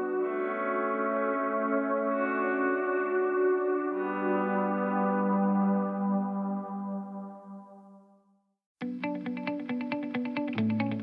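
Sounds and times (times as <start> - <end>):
ambient instrumental music: 0.0 - 8.1, 8.8 - 11.0.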